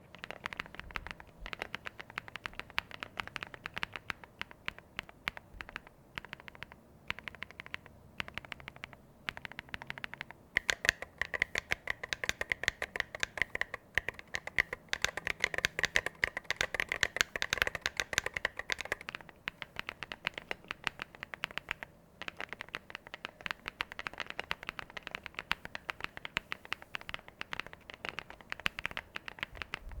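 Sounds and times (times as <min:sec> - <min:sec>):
mechanical keyboard typing: 0:00.0 - 0:29.8.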